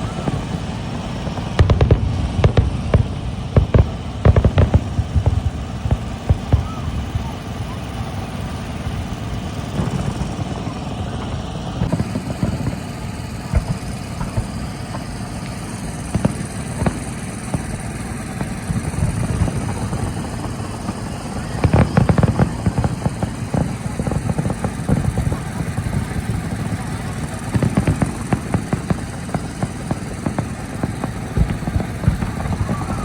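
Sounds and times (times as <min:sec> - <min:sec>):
fireworks booms and crackling bangs: 0:00.0 - 0:33.0.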